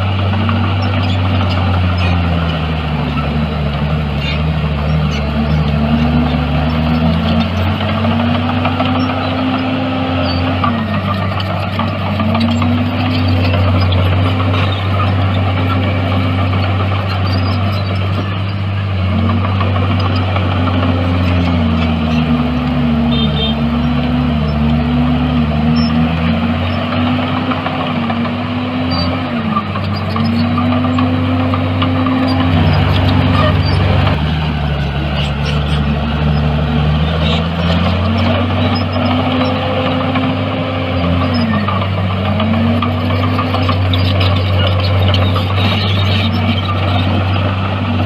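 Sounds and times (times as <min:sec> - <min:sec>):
heavy diesel engine under load: 0:00.0 - 0:48.0.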